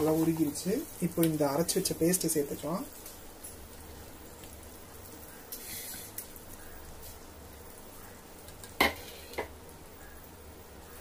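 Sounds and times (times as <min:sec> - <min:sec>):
butter sizzling in pan: 0:00.0 - 0:09.8.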